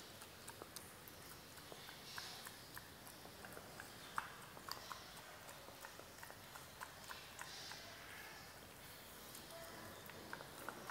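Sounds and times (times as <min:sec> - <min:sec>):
dog chewing with clicking teeth: 0:00.0 - 0:10.9.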